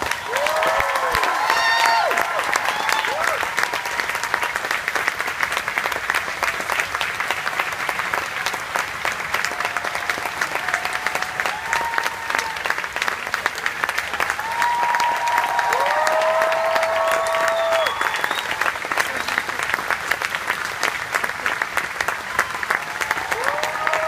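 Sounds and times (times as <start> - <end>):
large audience applauding: 0.0 - 24.0.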